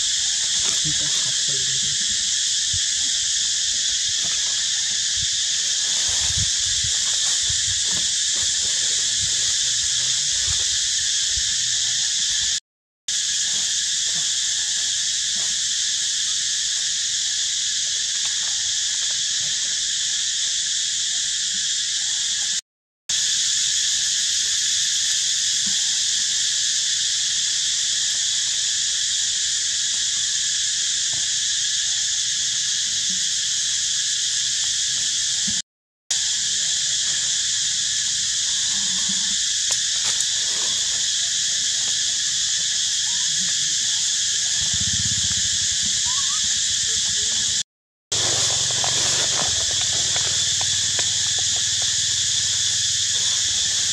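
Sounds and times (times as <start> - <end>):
insect chorus drone: 0.0 - 53.9.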